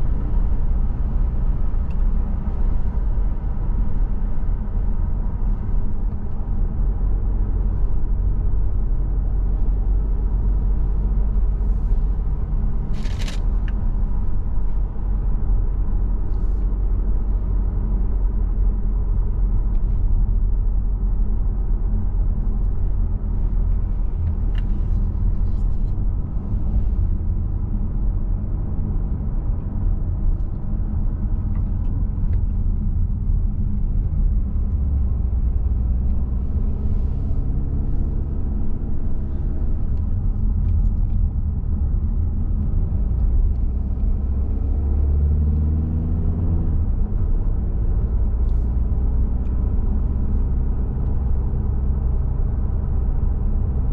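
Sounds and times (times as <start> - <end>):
car engine rumble: 0.0 - 53.9.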